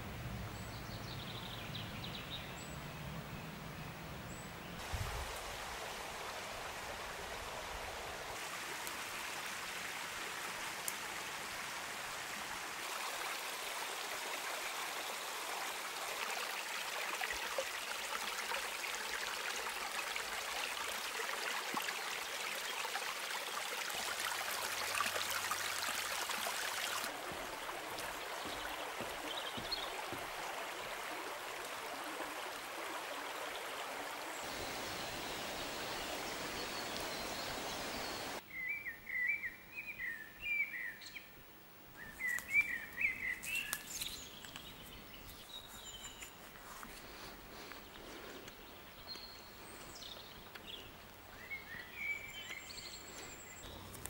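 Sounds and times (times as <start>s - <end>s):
brook trickling over stones: 4.8s - 38.4s, 42.0s - 54.0s.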